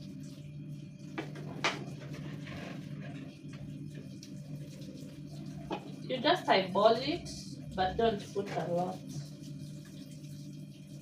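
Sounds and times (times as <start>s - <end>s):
low hum: 0.3s - 9.9s.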